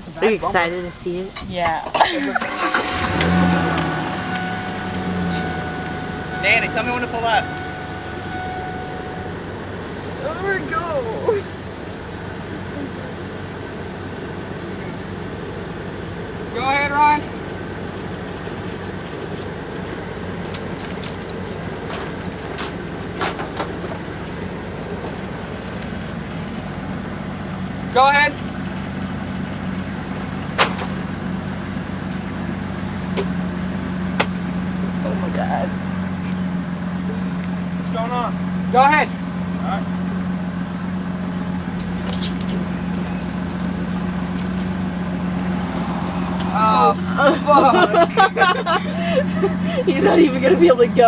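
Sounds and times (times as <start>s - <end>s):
engine running at low revs: 2.4s - 51.0s.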